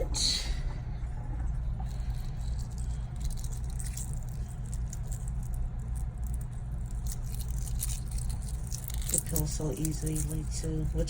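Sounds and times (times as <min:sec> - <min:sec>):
low hum: 0:00.0 - 0:11.0
eggshell cracking and peeling: 0:01.8 - 0:11.0.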